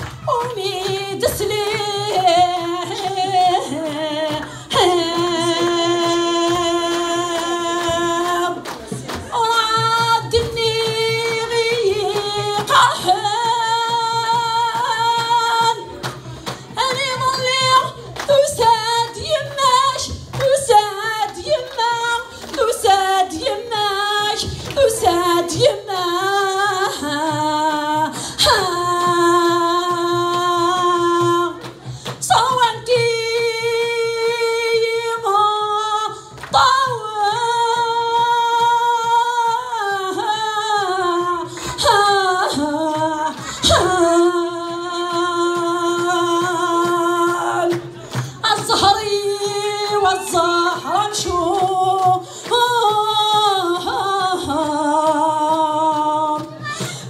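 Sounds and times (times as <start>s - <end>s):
woman singing unaccompanied: 0.0s - 57.0s.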